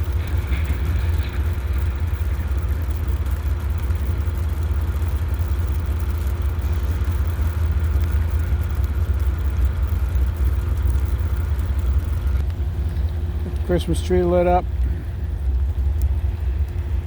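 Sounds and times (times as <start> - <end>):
diesel locomotive running: 0.0 - 17.0.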